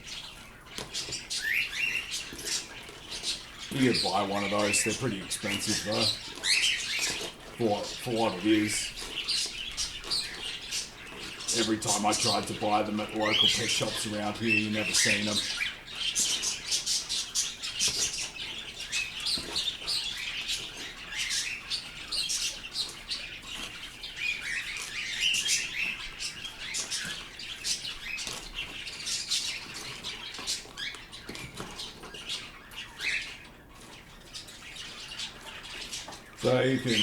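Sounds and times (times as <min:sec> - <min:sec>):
pet birds chirping: 0:00.0 - 0:37.0.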